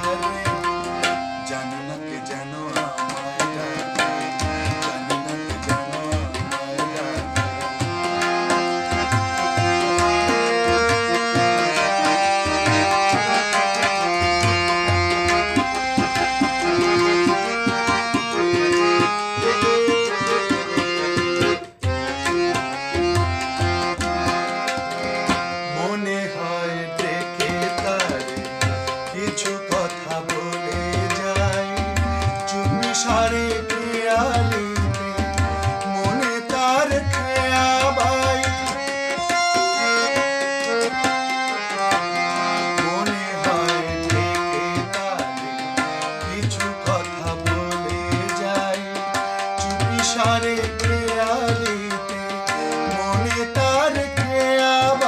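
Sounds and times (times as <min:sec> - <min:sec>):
man singing: 0:00.0 - 0:21.5, 0:22.2 - 0:55.0
harmonium held notes: 0:00.0 - 0:55.0.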